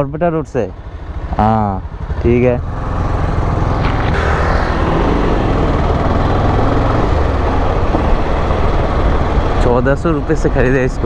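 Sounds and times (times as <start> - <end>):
wind and road noise: 0.0 - 11.0
motorcycle engine running: 0.4 - 11.0.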